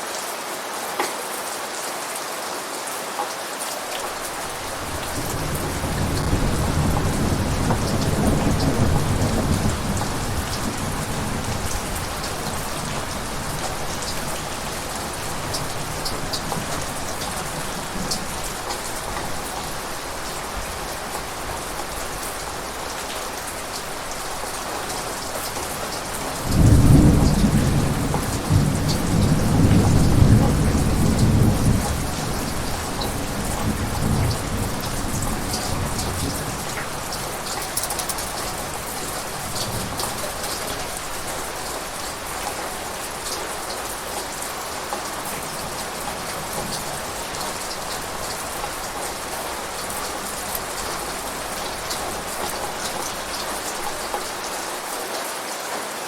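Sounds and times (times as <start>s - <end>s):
heavy rain: 0.0s - 56.0s
thunder rumbling: 4.4s - 54.4s
thunder clap: 4.5s - 19.9s, 24.8s - 54.4s.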